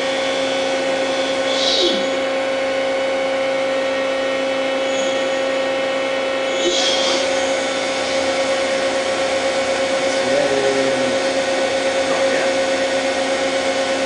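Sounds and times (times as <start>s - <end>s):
lathe spindle whine: 0.0s - 14.0s.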